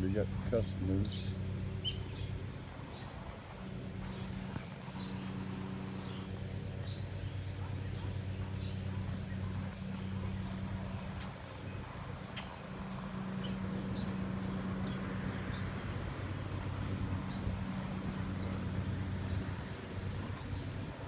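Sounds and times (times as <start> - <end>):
low mechanical hum: 0.0 - 21.0
small birds chirping: 0.2 - 18.3.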